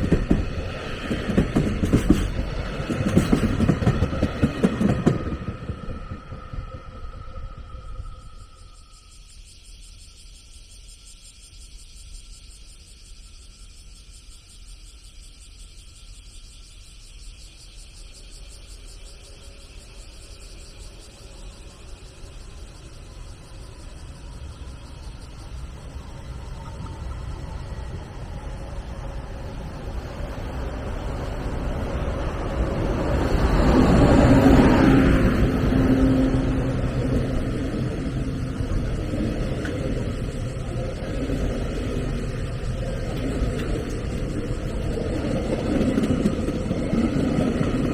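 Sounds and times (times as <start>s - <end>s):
train passing by: 0.0s - 9.5s, 18.2s - 47.9s.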